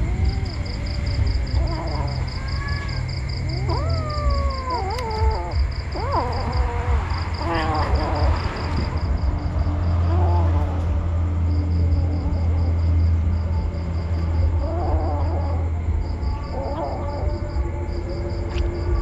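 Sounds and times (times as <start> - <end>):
kittens mewing: 0.0 - 19.0.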